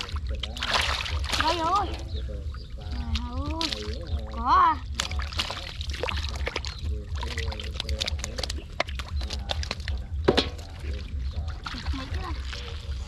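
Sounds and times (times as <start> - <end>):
hands splashing in muddy water: 0.0 - 2.1, 2.9 - 4.3, 4.9 - 13.0
low steady rumble: 0.0 - 13.0.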